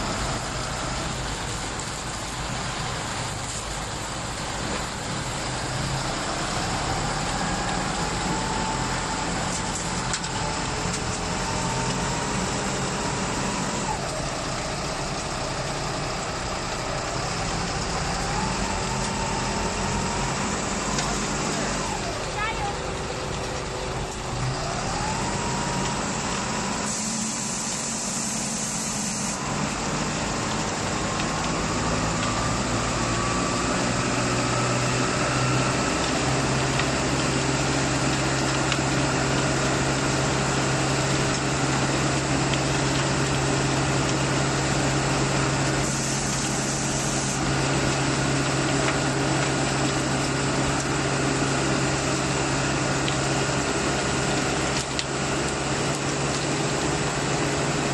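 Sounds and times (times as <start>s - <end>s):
truck engine running: 0.0s - 57.9s.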